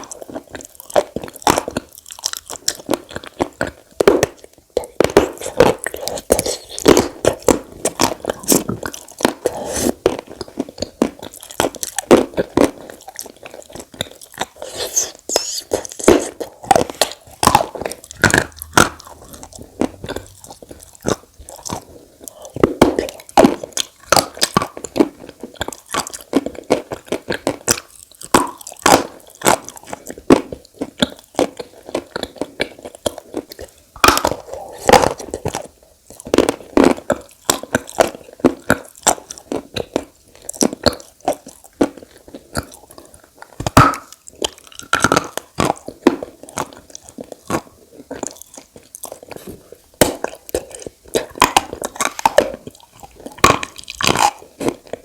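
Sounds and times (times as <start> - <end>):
chalk crunching in mouth: 0.0 - 55.0.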